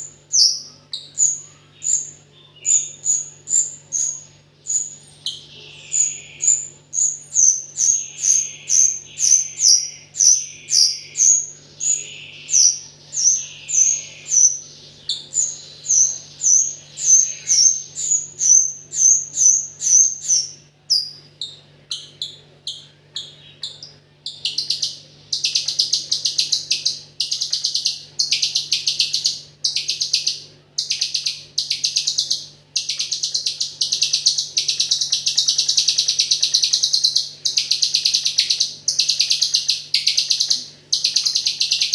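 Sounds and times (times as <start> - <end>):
bird chatter trills: 0.0 - 41.9
faint low hum: 0.0 - 41.9.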